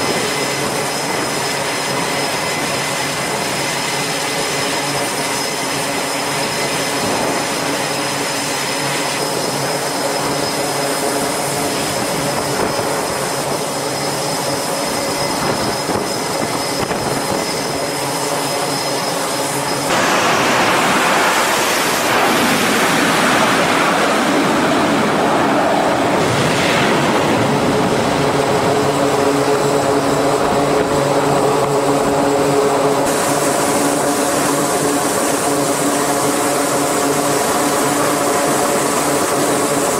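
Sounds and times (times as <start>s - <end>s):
jet engines whining and roaring: 0.0s - 39.9s
jet noise rush sweeping in pitch: 5.9s - 38.8s.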